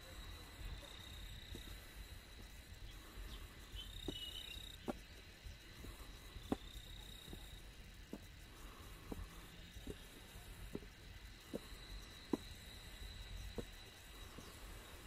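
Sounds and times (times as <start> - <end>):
insects singing high pitch: 0.0 - 15.0
footsteps on stone steps: 1.2 - 2.6, 3.9 - 15.0.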